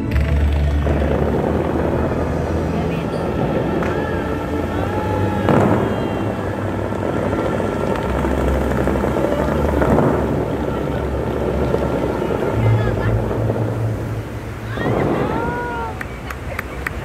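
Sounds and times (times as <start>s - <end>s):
fountain water jets roaring: 0.0s - 17.0s.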